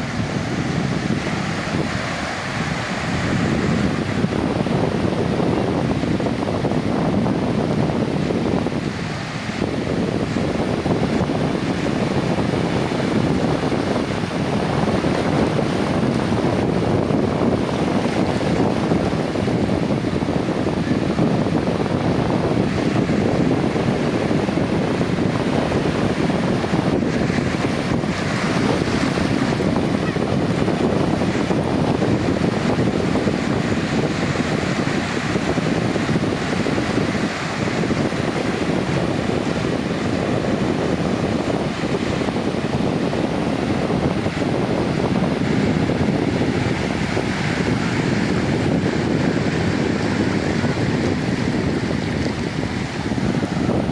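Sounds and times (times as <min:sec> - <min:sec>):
sea waves breaking on beach: 0:00.0 - 0:53.9
wind buffeting microphone: 0:00.0 - 0:53.9.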